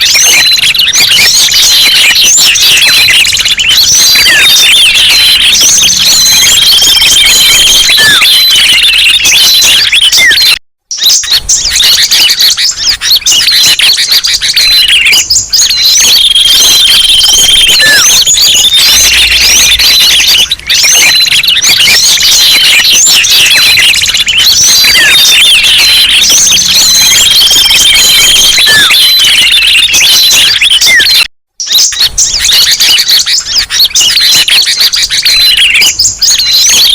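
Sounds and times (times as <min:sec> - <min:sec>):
songbirds chirping and whistling: 0:00.0 - 0:36.9.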